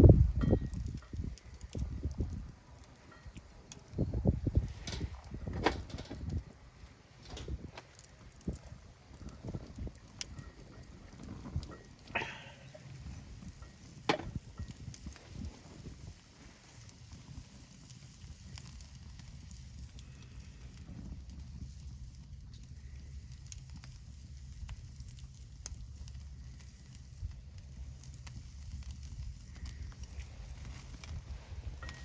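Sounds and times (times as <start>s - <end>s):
campfire crackling: 0.0s - 32.0s
fire popping: 0.0s - 32.0s.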